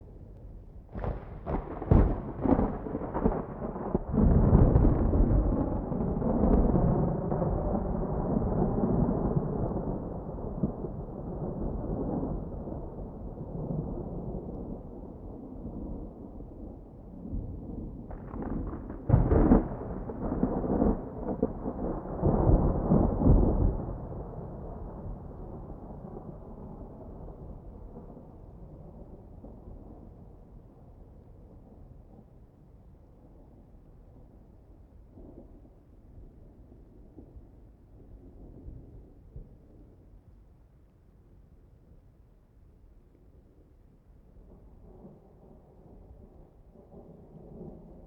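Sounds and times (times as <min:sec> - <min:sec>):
thunder crackling and rumbling: 0:00.0 - 0:40.5, 0:44.1 - 0:48.0.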